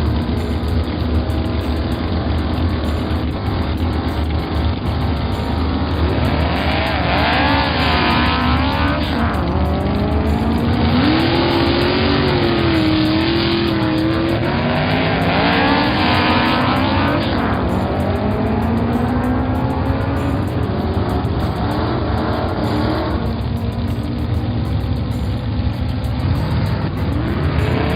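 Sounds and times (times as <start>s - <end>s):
cartoon engine revving: 0.0s - 27.9s.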